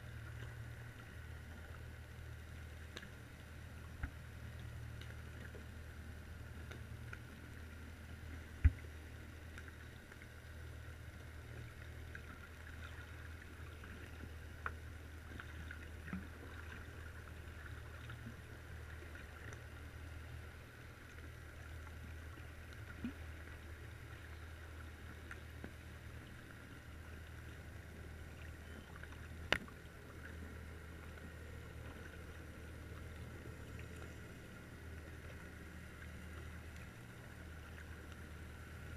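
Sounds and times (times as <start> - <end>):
underwater low hum: 0.0 - 38.9.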